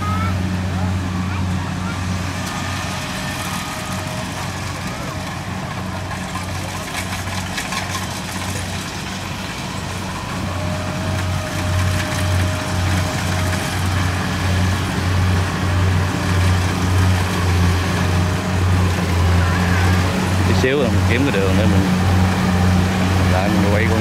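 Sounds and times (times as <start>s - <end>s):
diesel engine throbbing: 0.0s - 24.0s.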